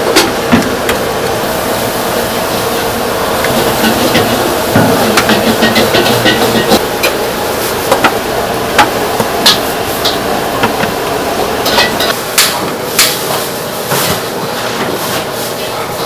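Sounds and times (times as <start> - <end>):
steady background din: 0.0 - 13.1.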